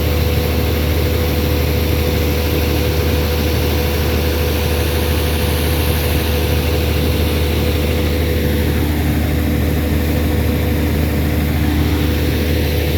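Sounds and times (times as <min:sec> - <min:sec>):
air compressor engine hum: 0:00.0 - 0:12.9
continuous rushing noise: 0:00.0 - 0:12.9.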